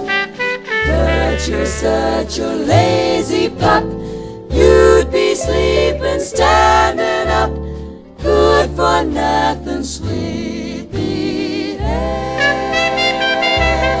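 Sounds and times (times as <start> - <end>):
song with vocals and bass: 0.8 - 14.0.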